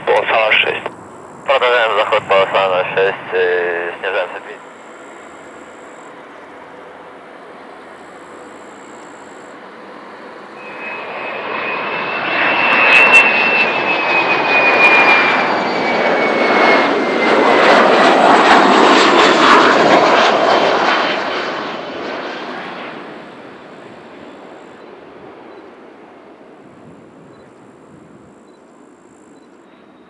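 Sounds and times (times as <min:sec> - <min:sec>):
jet airliner flying past: 0:00.0 - 0:30.0.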